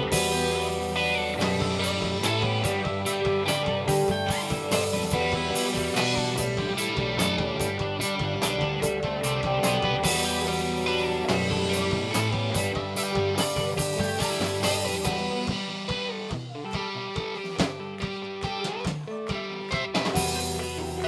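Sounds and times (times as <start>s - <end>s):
bass guitar: 0.0s - 21.0s
drum kit: 0.0s - 21.0s
electric guitars: 0.0s - 21.0s.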